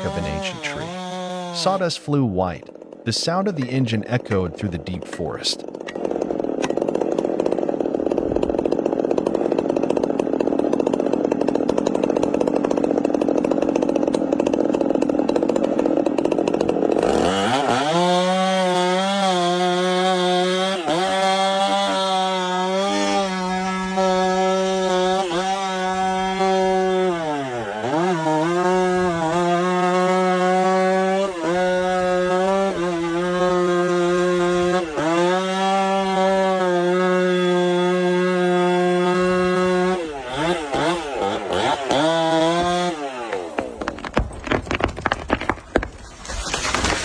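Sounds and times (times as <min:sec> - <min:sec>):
chainsaw cutting tree trunk: 0:00.0 - 0:47.0.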